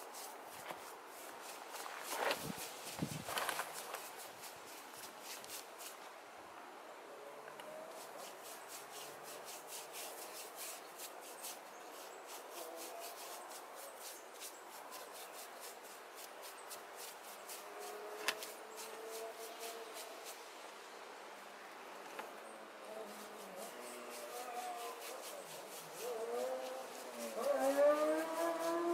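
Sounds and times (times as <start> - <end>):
scratchy brush strokes: 0.0 - 6.1, 7.6 - 20.6, 22.2 - 28.9.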